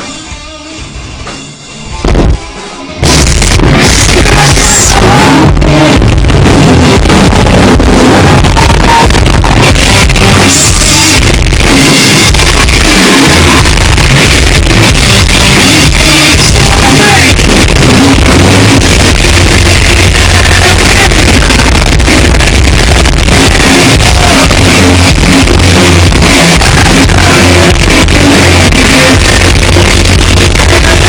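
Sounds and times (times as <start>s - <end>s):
live metal band playing loud: 0.0s - 31.0s.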